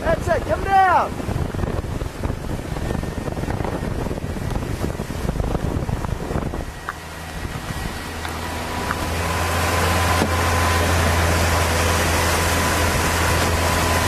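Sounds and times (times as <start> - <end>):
boat hull splashing through water: 0.0 - 14.0
low engine hum: 0.0 - 14.0
wind buffeting microphone: 0.0 - 14.0.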